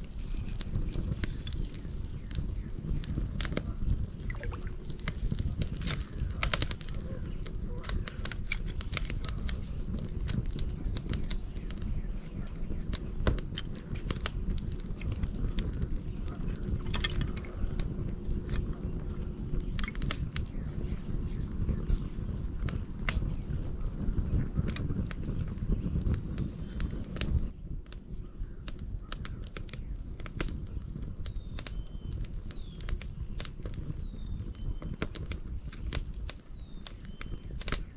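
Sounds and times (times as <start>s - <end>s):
steady low rumble: 0.0s - 31.5s
wood fire crackling: 0.0s - 37.9s.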